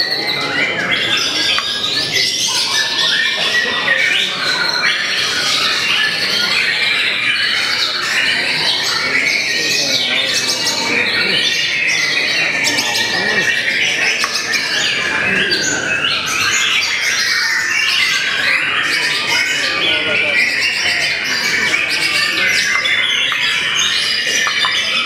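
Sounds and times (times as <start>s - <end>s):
birds singing whistles and trills: 0.0s - 25.0s.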